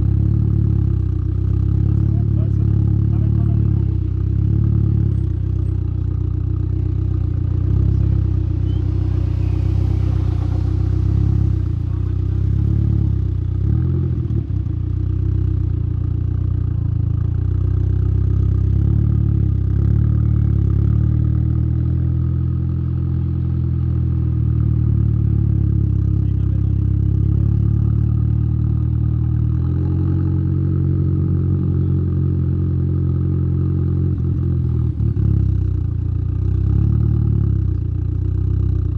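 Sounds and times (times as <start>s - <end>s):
car exhaust drone: 0.0s - 38.9s.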